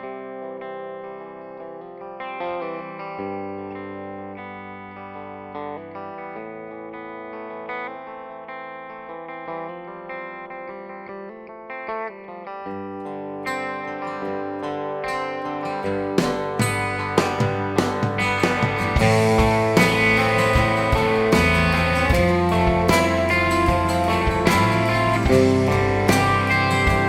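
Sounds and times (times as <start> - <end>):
instrumental guitar music: 0.0 - 27.0.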